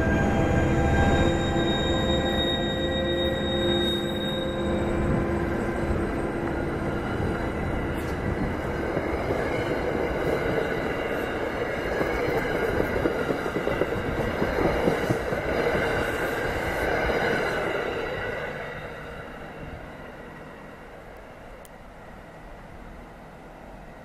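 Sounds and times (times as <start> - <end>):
train wheels rumbling on rails: 0.0 - 21.4.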